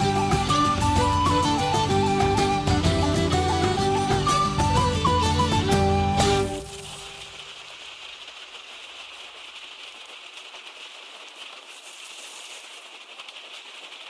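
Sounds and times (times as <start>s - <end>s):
water spraying and draining: 0.0s - 14.0s
wet stones crackling: 0.0s - 14.0s.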